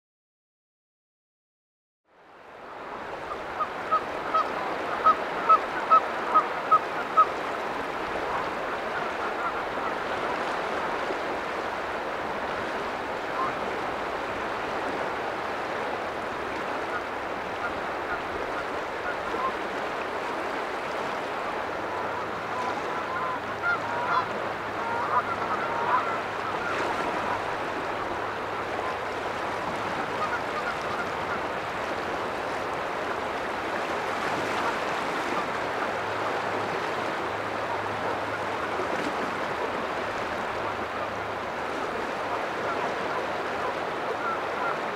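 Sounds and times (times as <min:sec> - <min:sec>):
seawater washing on rocky shore: 0:03.3 - 0:44.9.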